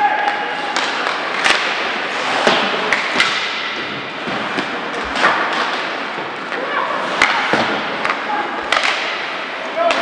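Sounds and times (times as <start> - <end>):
hockey sticks and puck cracking: 0.0 - 10.0
steady rink hiss: 0.4 - 10.0.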